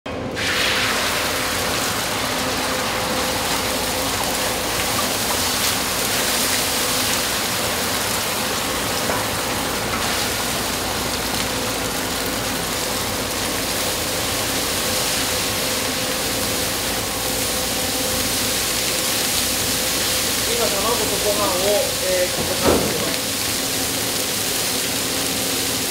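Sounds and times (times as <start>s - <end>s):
machine hum: 0.1s - 25.9s
hiss of frying: 0.3s - 25.9s.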